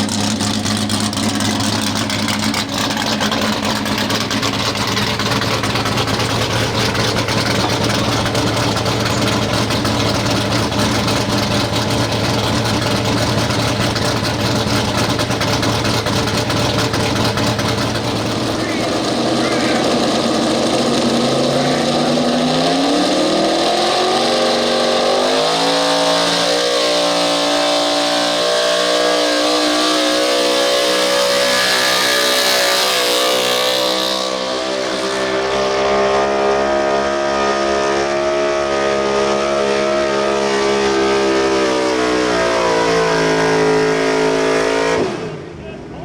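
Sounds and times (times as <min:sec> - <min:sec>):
truck engine at high revs: 0:00.0 - 0:46.0.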